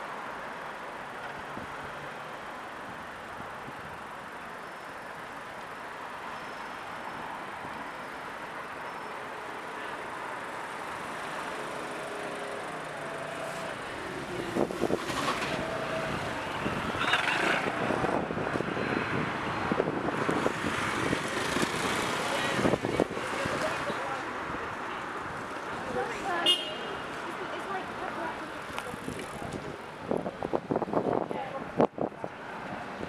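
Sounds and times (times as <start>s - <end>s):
cars passing on road: 0.0s - 33.0s.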